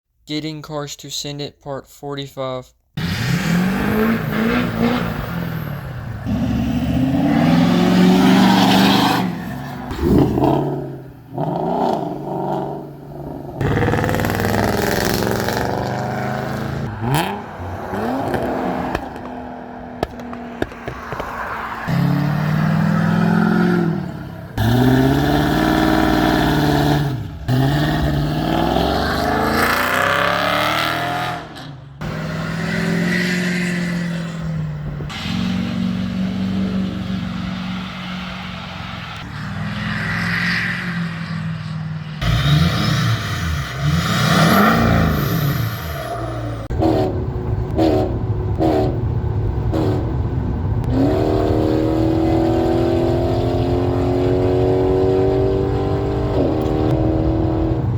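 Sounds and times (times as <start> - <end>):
diesel truck engine accelerating: 3.0 - 20.8, 21.8 - 40.2, 41.0 - 57.9.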